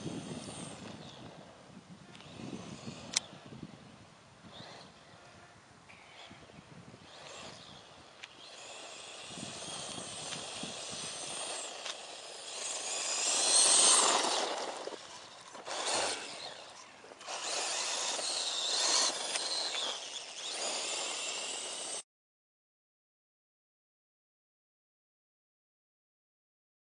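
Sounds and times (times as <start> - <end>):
toy quad bike tyres on gravel: 0.0 - 22.0.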